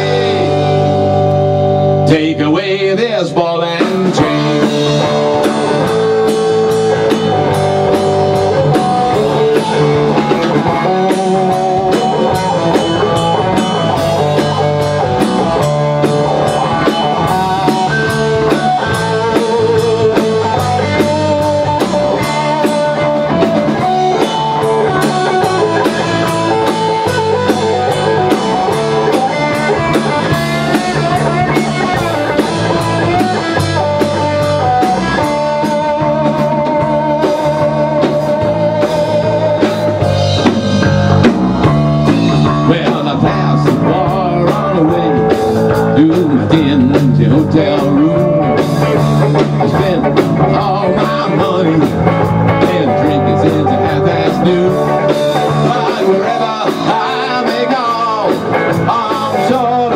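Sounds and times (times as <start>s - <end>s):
electric guitar lead line: 0.0s - 59.9s
live rock band playing: 0.0s - 59.9s.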